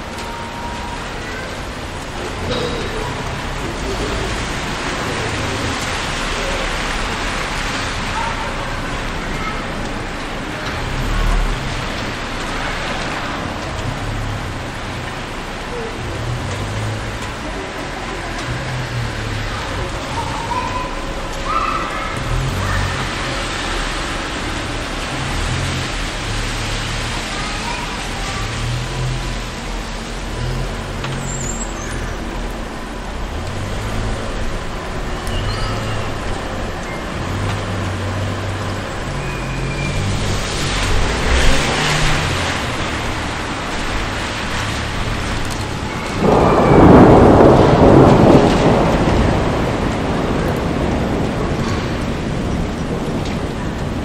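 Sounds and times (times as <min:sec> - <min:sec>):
loud rush of noise: 0:00.0 - 0:54.0
traffic noise: 0:00.0 - 0:54.0
vehicles passing: 0:00.0 - 0:54.0.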